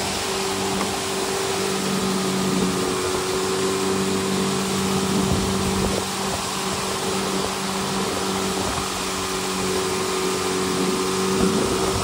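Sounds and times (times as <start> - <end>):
outboard motor running: 0.0 - 12.0
water rushing: 0.0 - 12.0
wind: 0.0 - 12.0.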